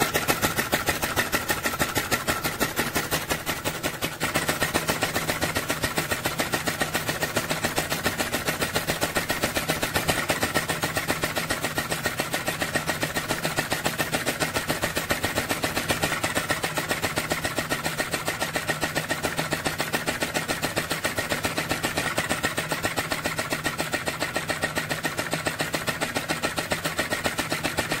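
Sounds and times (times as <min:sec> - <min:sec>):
model engine running: 0:00.0 - 0:28.0.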